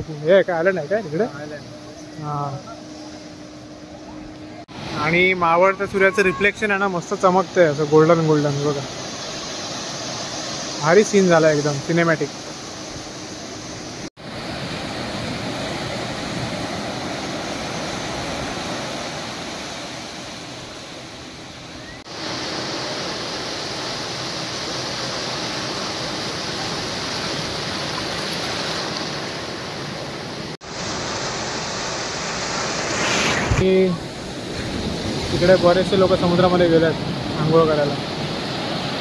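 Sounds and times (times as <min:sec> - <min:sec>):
surf washing onto beach: 0:00.0 - 0:39.0.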